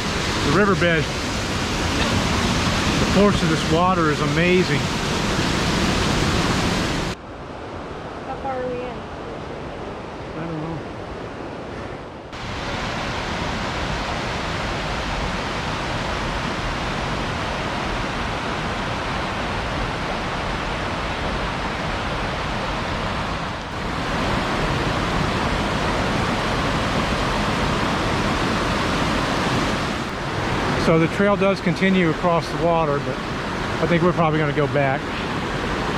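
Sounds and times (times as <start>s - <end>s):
waterfall and creek rushing: 0.0s - 8.8s, 9.4s - 35.9s.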